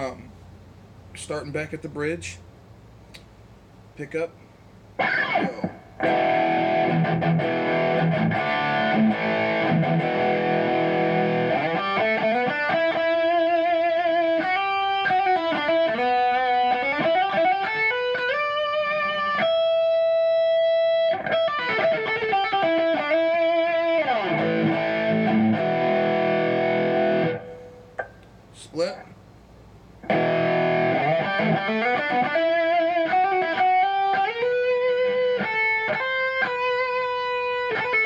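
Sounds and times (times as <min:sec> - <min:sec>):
electric guitar lick with bends: 0:05.0 - 0:28.0, 0:30.0 - 0:38.0
electric guitar crunch chords: 0:05.0 - 0:28.1, 0:30.0 - 0:38.0.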